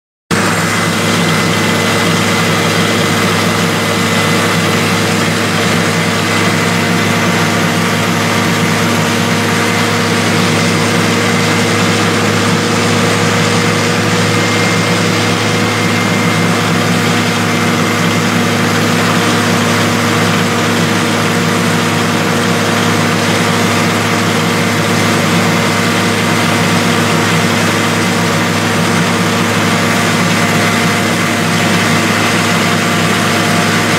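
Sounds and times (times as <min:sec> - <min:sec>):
engine drone: 0:00.3 - 0:33.9.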